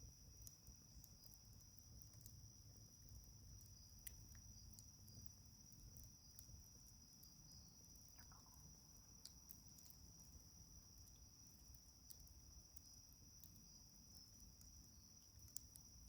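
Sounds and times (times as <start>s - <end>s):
crickets trilling: 0.0s - 16.0s
wood fire crackling: 0.0s - 16.0s.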